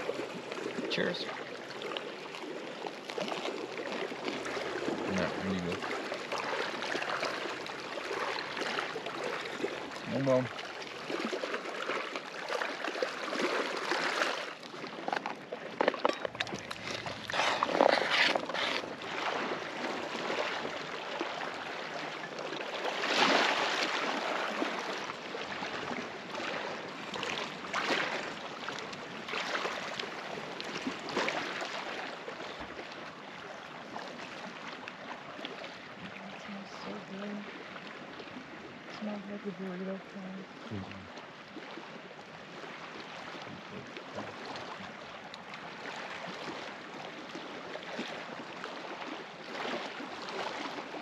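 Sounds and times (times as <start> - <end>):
waves lapping on pebbles: 0.0 - 51.0.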